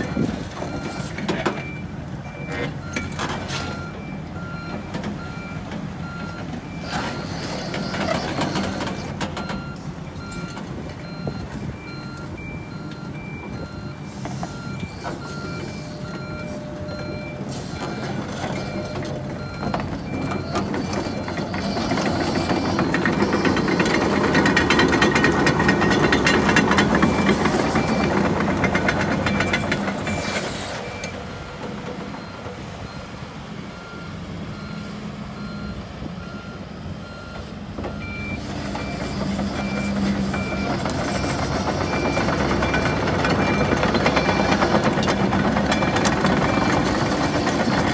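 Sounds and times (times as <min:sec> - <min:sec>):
excavator diesel engine running: 0:00.0 - 0:47.9
reversing alarm beeping: 0:00.0 - 0:47.9
track clatter: 0:04.6 - 0:33.0, 0:37.3 - 0:47.9.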